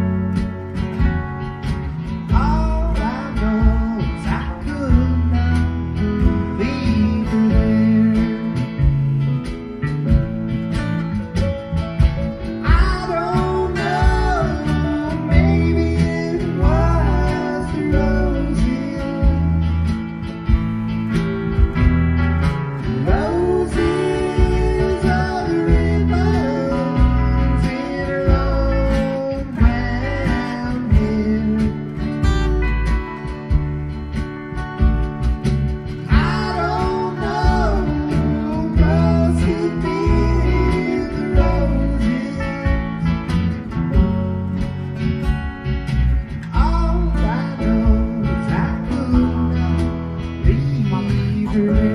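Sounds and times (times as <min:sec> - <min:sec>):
bass line: 0:00.0 - 0:51.9
strummed guitar chords: 0:00.0 - 0:51.9.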